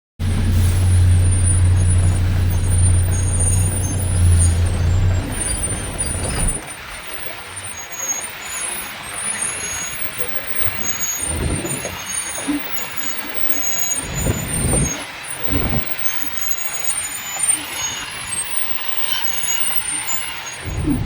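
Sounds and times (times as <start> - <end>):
truck engine droning: 0.2 - 21.0.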